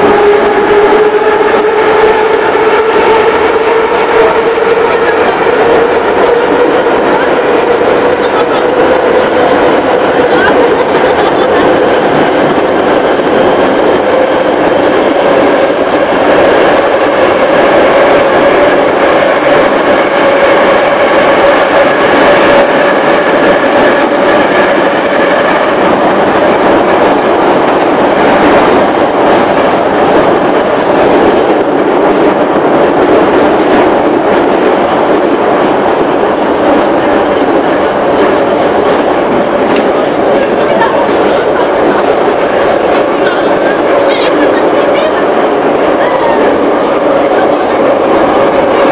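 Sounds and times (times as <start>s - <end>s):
metro train running noise: 0.0s - 48.9s.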